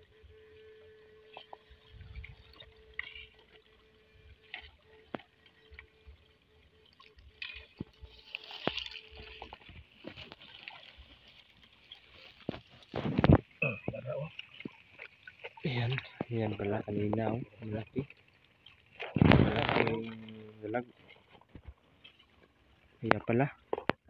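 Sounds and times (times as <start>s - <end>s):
faint steady electric hum: 0.0s - 24.0s
muddy water sloshing and splashing: 0.1s - 24.0s.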